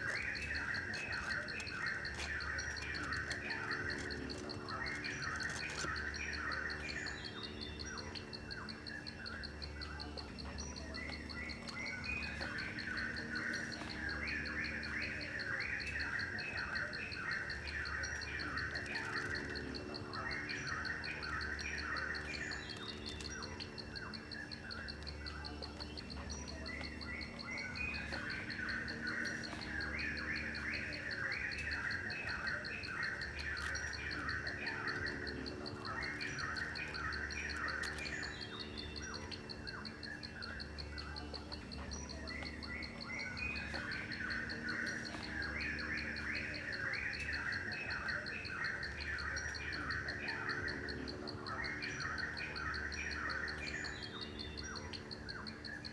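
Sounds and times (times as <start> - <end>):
birds chirping: 0.0 - 55.9
high insect trill: 0.0 - 55.9.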